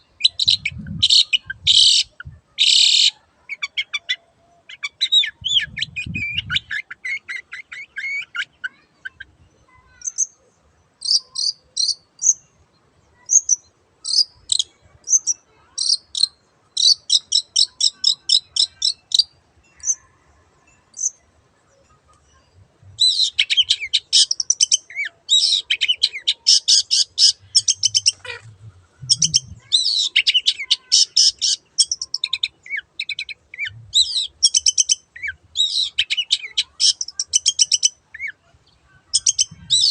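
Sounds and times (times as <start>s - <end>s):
bird chattering song: 0.0s - 12.6s, 13.2s - 20.1s, 20.9s - 21.2s, 22.2s - 39.9s.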